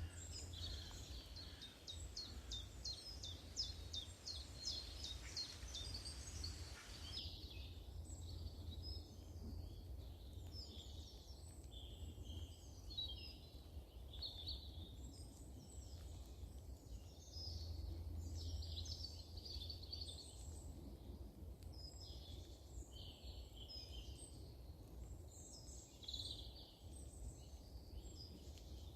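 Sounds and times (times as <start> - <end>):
songbirds chirping: 0.0 - 28.9.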